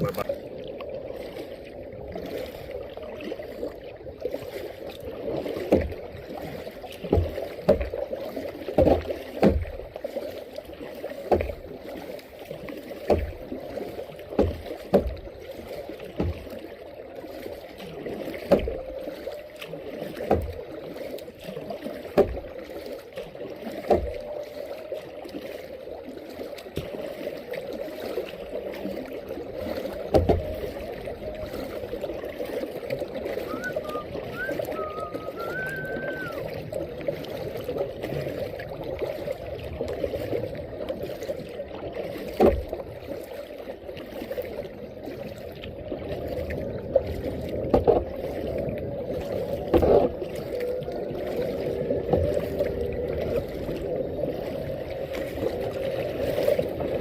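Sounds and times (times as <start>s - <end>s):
water washing: 0.0s - 43.3s, 44.0s - 57.0s
paddle strokes: 0.0s - 57.0s.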